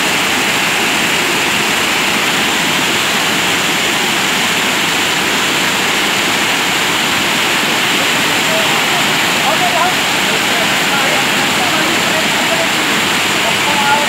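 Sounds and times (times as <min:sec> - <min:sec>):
river water roaring over spillway: 0:00.0 - 0:14.0.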